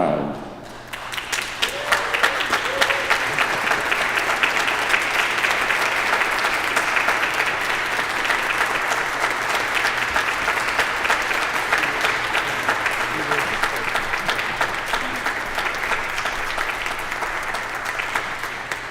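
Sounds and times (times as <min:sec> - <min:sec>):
crowd applauding: 0:00.6 - 0:18.9.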